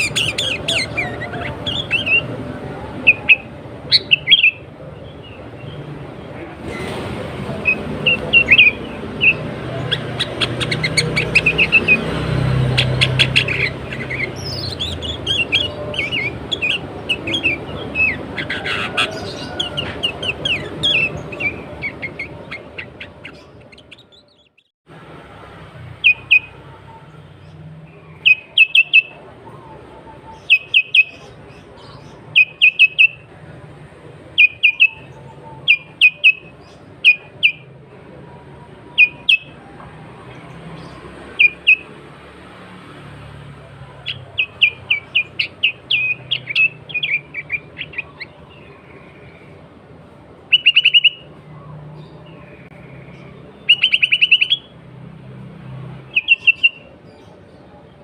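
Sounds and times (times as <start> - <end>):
birds chirping and whistling: 0.0 - 24.7, 26.0 - 33.4, 34.2 - 37.8, 38.4 - 42.0, 43.5 - 58.0.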